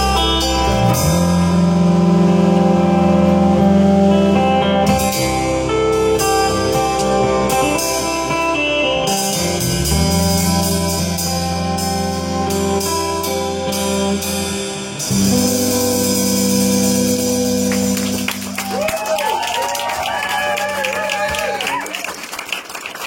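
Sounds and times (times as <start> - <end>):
guitar music over steady beat: 0.0 - 18.6.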